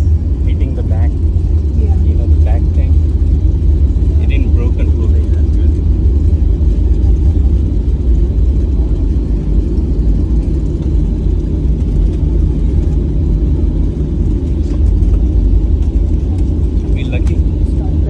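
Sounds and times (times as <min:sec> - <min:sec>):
airplane cabin airflow and engine rumble: 0:00.0 - 0:18.0.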